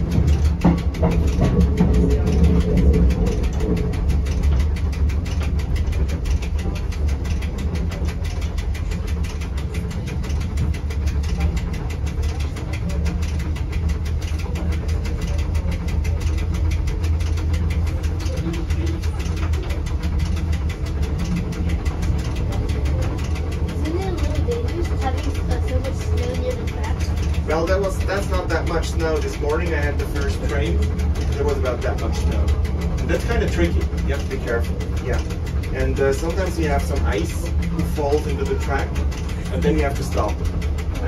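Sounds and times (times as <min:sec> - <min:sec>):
railcar rumbling on track: 0:00.0 - 0:41.0
rapid regular clicking: 0:00.0 - 0:41.0.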